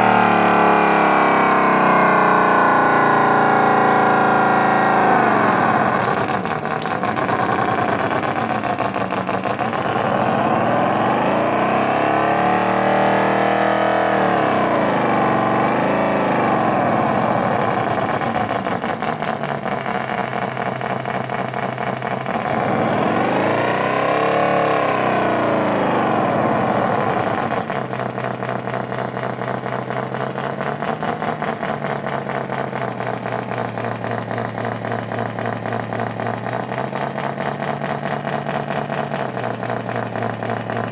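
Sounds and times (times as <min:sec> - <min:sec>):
simulated engine through speaker: 0:00.0 - 0:40.9.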